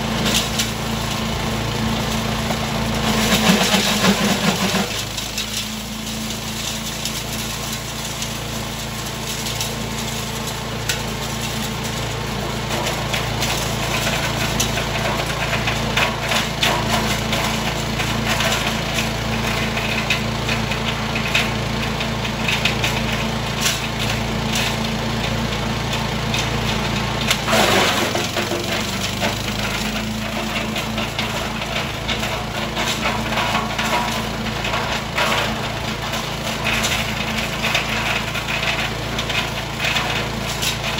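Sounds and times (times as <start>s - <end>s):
chipper engine running: 0.0s - 40.9s.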